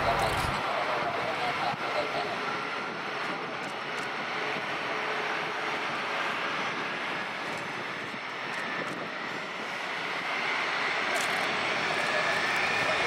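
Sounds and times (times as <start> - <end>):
jet engines rushing and whining: 0.0 - 13.0.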